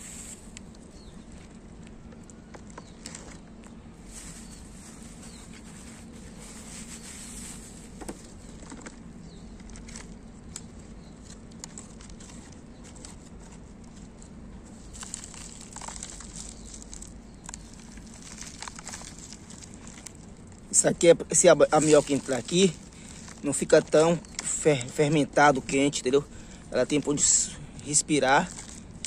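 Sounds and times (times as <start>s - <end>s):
plastic and peels crinkling: 0.0s - 29.0s
steady low hum: 0.0s - 29.0s.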